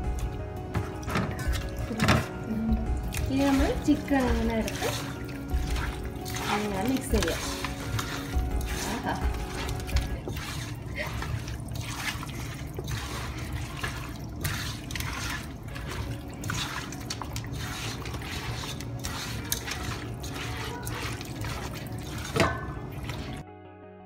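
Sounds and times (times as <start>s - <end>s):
hand squelching chicken in marinade: 0.1s - 23.4s.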